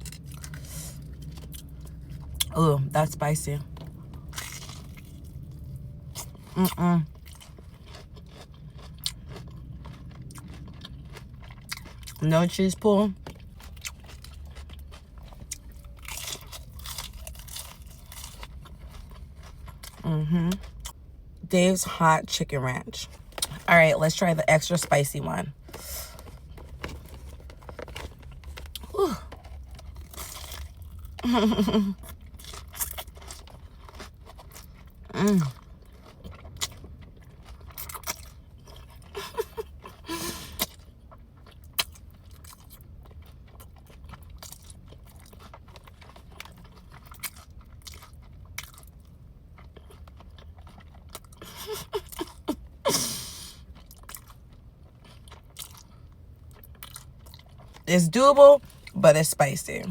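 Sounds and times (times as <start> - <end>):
person chewing crunchy food: 0.0 - 21.1, 22.9 - 59.0.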